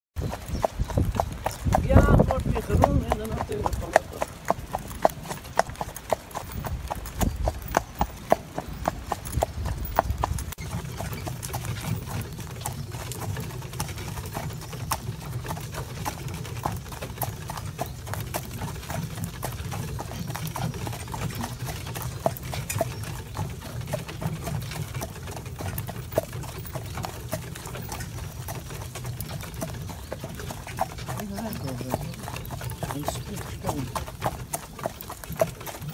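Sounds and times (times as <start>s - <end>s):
horse hooves clip-clopping: 0.2s - 35.9s.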